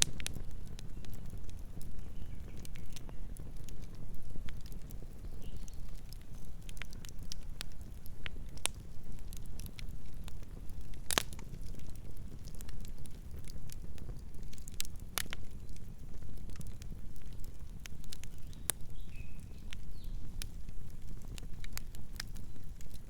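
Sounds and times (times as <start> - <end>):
campfire crackling and popping: 0.0 - 23.0
campfire rumbling: 0.0 - 23.0.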